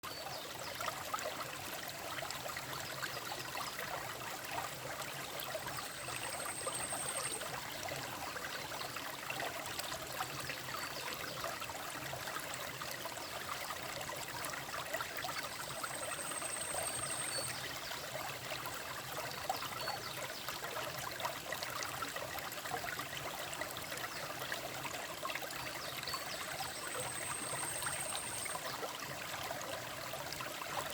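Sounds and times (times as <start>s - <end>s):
stream running over rocks: 0.0s - 30.9s.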